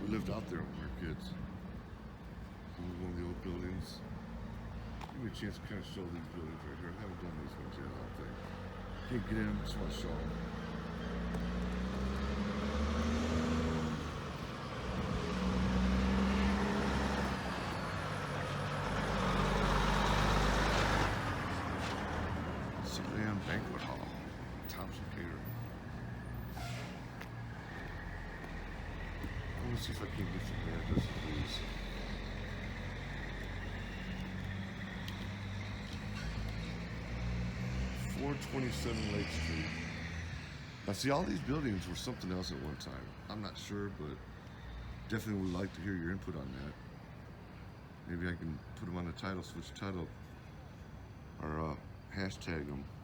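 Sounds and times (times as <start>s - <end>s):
low engine hum: 0.0s - 42.9s
street background noise: 0.0s - 53.0s
vehicles driving past: 0.0s - 53.0s.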